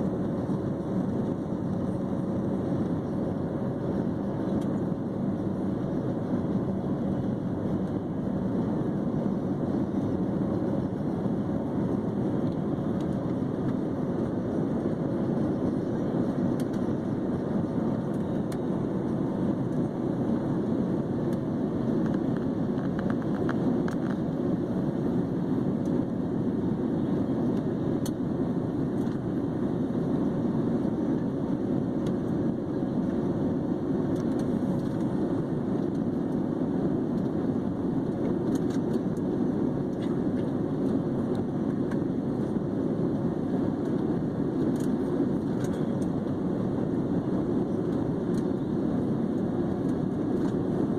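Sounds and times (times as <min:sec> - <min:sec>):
jet airliner cabin drone: 0:00.0 - 0:50.9.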